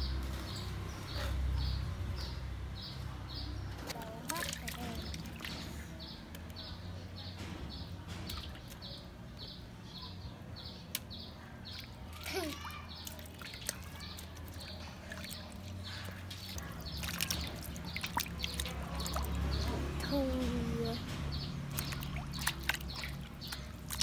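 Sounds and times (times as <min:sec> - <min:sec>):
water splashing in a metal basin: 0:01.7 - 0:09.4, 0:10.9 - 0:24.0.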